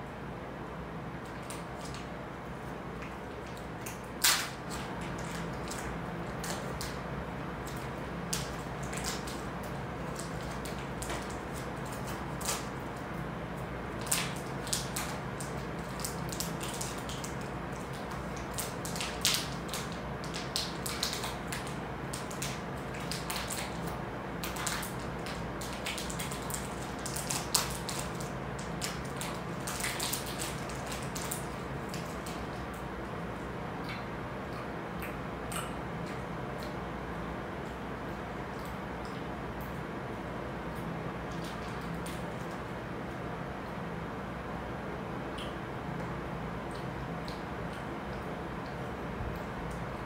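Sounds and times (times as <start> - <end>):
low room hum: 0.0 - 50.0
clicks and crackles of handling food: 1.2 - 43.8, 45.3 - 50.0.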